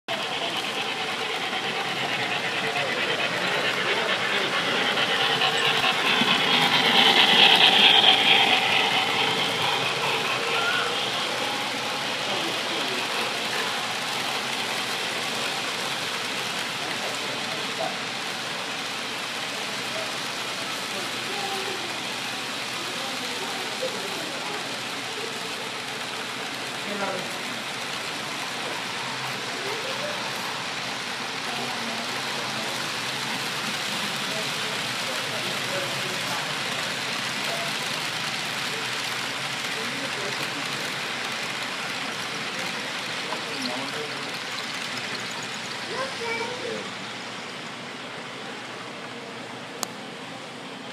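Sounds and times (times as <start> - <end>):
model train wheels clattering: 0.1 - 47.9
faint distant voices: 0.1 - 50.9
mall background hubbub: 0.1 - 50.9.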